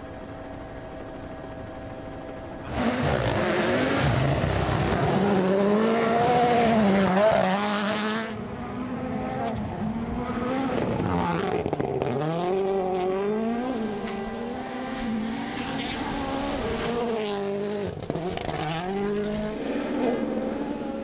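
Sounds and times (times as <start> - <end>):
rally car engine revving: 2.6 - 21.0.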